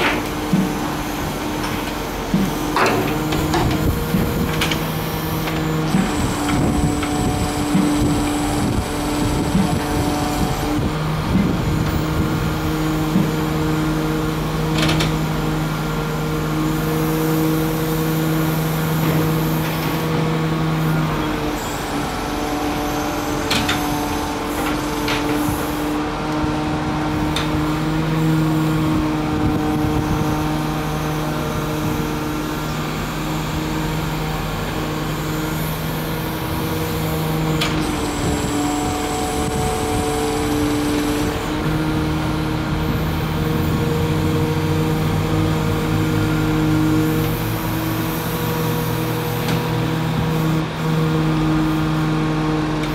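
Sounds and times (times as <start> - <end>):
excavator engine and hydraulic pump: 0.0 - 52.9.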